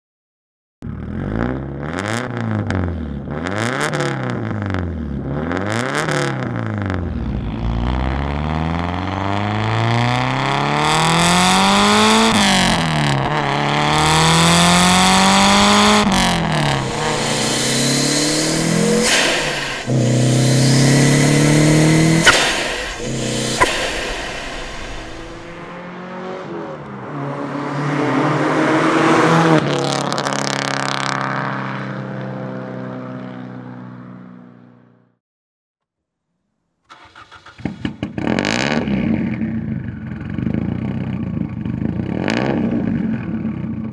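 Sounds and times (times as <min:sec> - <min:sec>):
car engine revving and accelerating: 0:00.9 - 0:34.6, 0:37.0 - 0:39.7, 0:42.0 - 0:43.0.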